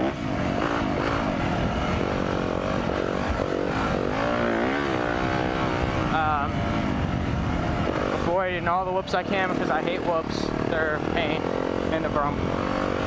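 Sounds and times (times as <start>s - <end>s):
motocross bike engine revving: 0.0s - 13.0s
wind rush on microphone: 0.0s - 13.0s.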